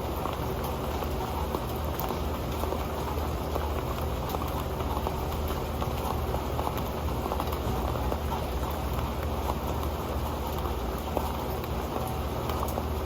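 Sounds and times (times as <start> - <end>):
rain pattering on a pan: 0.0 - 13.0.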